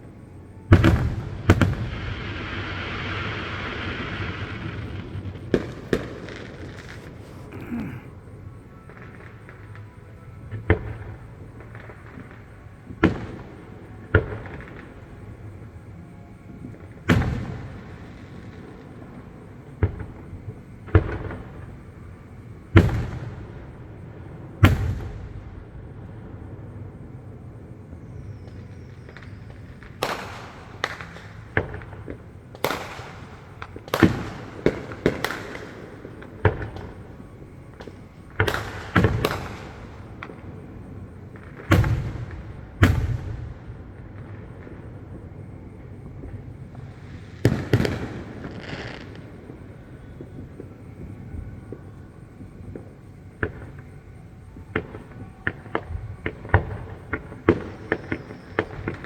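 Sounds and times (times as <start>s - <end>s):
distant fireworks booming: 0.0s - 59.0s.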